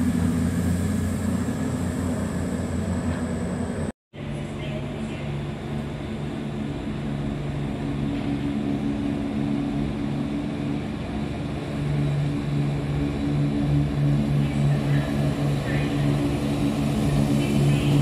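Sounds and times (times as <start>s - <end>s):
diesel train engine droning: 0.0s - 18.0s.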